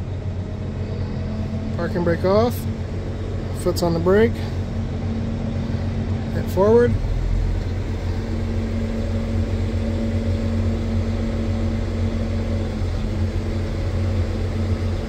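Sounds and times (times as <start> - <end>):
dump truck diesel engine drone: 0.0 - 15.0.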